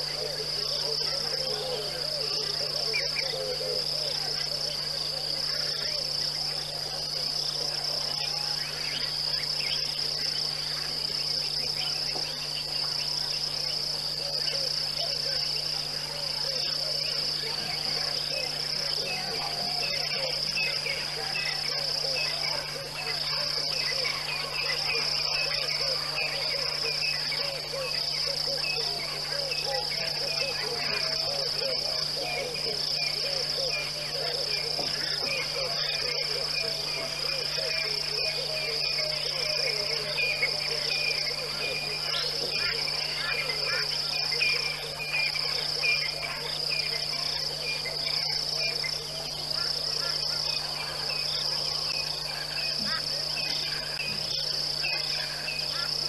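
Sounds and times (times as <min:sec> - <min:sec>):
insects chirping: 0:00.0 - 0:56.0
insects pulsing high trill: 0:00.0 - 0:56.0.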